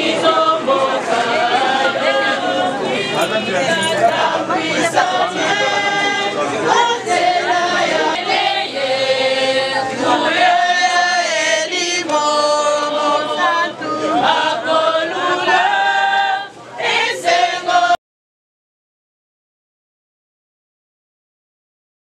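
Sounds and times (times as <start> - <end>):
choir singing held notes: 0.0 - 18.0.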